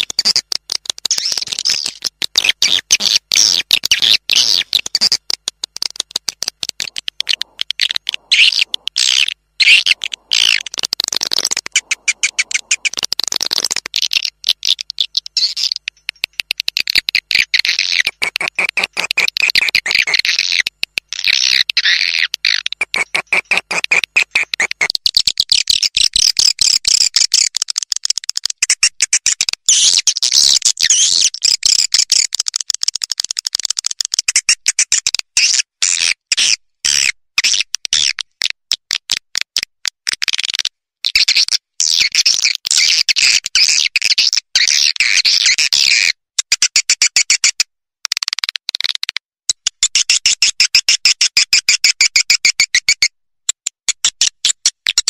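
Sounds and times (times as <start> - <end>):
rapid high-pitched bird chittering: 0.0 - 38.4, 40.3 - 55.0.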